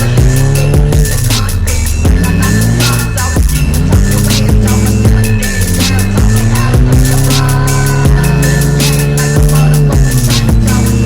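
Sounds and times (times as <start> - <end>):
phonk electronic music: 0.0 - 11.0.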